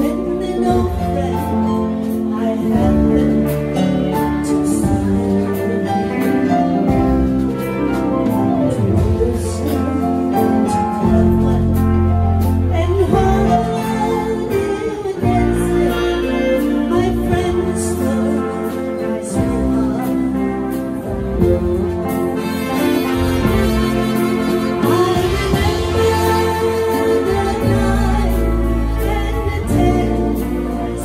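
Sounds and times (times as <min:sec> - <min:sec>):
bass: 0:00.0 - 0:31.0
drums: 0:00.0 - 0:31.0
woman singing into microphone: 0:00.0 - 0:31.0.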